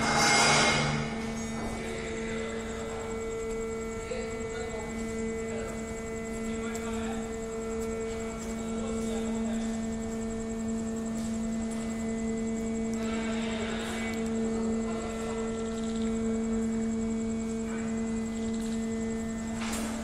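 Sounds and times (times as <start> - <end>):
electric machinery hum: 0.0 - 20.0.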